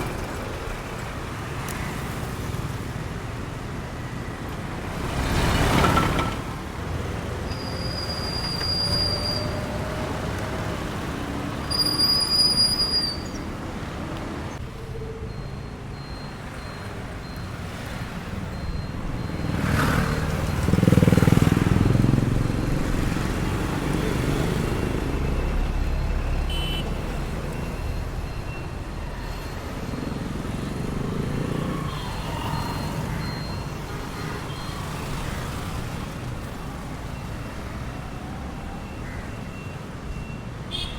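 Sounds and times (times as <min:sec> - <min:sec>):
passing vehicles rumble: 0:00.0 - 0:40.4.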